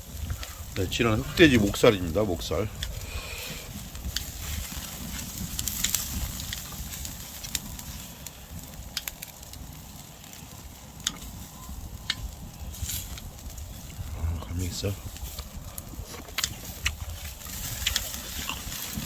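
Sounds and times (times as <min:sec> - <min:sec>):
campfire crackling and popping: 0:00.0 - 0:19.0
wind rumble on microphone: 0:00.0 - 0:19.0.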